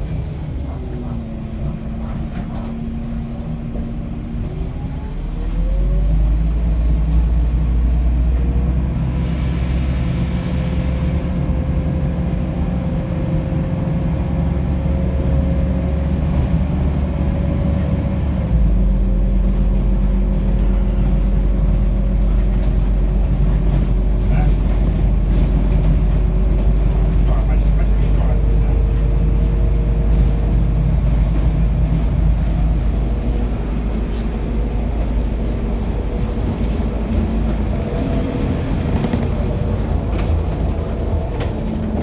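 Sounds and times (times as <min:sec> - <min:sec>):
bus engine drone: 0:00.0 - 0:42.0
road noise: 0:00.0 - 0:42.0.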